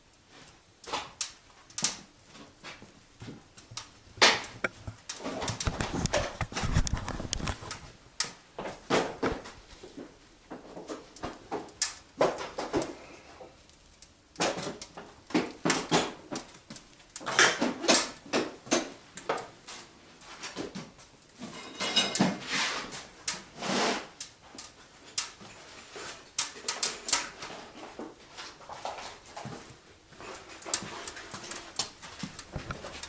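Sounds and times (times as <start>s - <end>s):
wood fire crackling in stove: 0.0s - 33.0s.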